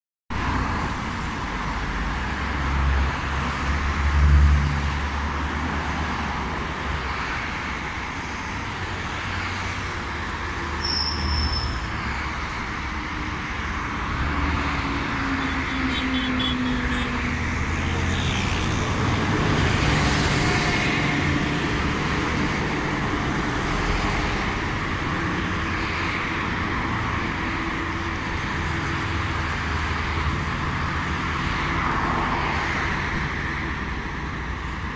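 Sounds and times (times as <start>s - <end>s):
road traffic rumble: 0.3s - 34.9s.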